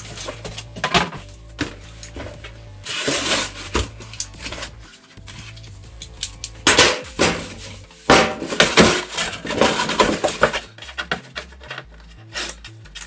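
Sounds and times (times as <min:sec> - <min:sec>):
cardboard rustling and scraping: 0:00.0 - 0:05.8, 0:07.1 - 0:13.0.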